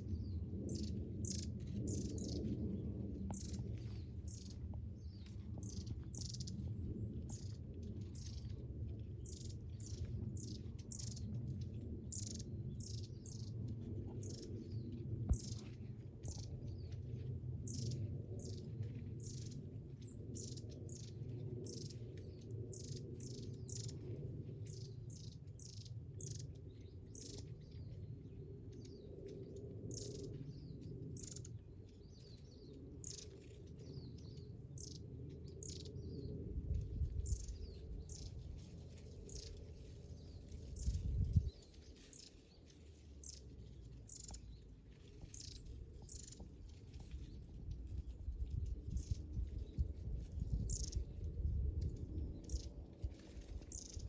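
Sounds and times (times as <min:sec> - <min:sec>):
birds chirping: 0:00.0 - 0:36.4, 0:37.2 - 0:47.5, 0:50.5 - 0:51.1, 0:52.2 - 0:52.7, 0:53.5 - 0:54.0
low rumble: 0:00.0 - 0:54.0.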